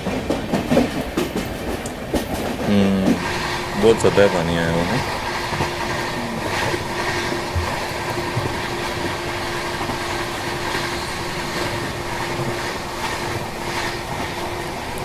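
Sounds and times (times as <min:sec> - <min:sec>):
train rumbling inside coach: 0:00.0 - 0:15.0.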